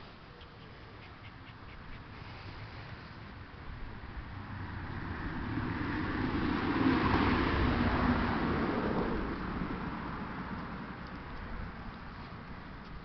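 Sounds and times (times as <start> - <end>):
vehicle passing by: 0.8 - 12.9.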